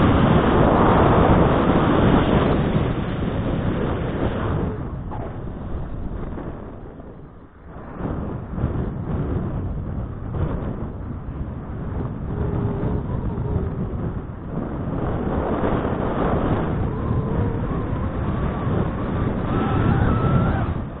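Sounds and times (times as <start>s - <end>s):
snowboard scraping over snow: 0.0s - 20.8s
wind buffeting microphone: 0.0s - 21.0s.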